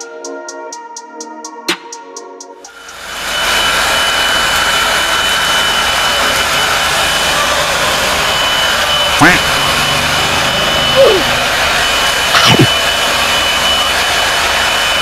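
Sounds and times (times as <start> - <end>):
hair dryer blowing: 2.7 - 15.0.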